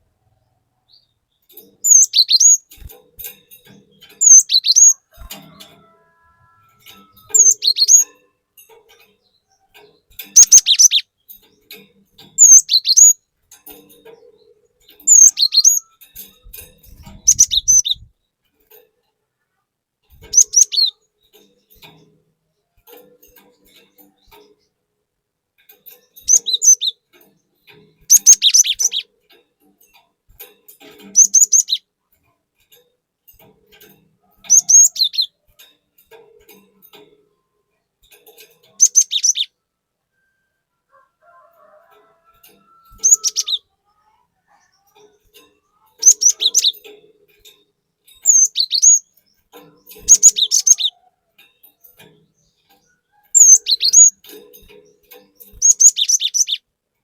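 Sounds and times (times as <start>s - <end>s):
bird chirping song: 0.0s - 56.8s.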